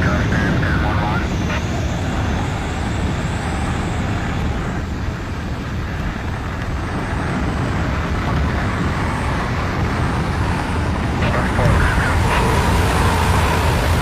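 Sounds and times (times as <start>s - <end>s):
rushing wind noise: 0.0s - 14.0s.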